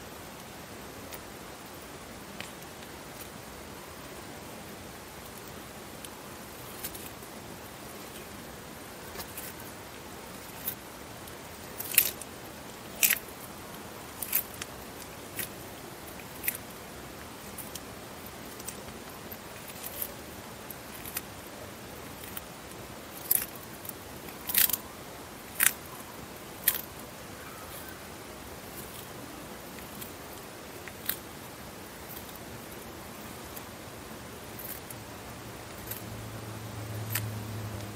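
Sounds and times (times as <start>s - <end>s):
tortoise crunching leafy greens: 1.0s - 37.9s.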